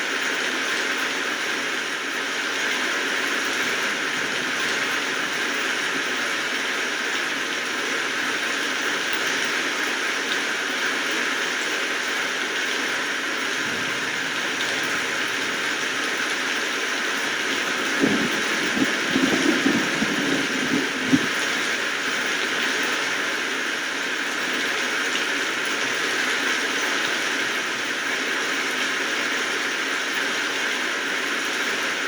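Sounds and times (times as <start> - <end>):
steady rainfall: 0.0 - 32.0.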